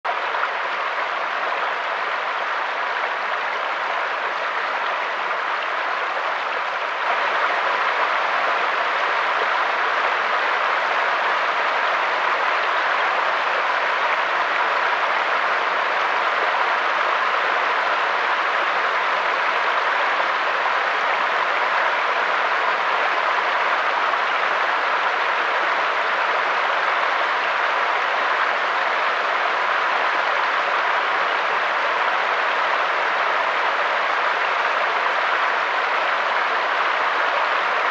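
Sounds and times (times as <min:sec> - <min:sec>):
stream flowing over rocks: 0:00.1 - 0:37.9.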